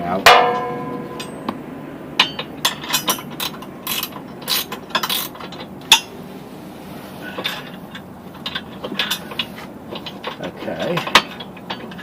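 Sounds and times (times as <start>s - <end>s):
metal clinking and scraping: 0.3s - 1.6s, 2.2s - 6.2s, 6.9s - 12.0s.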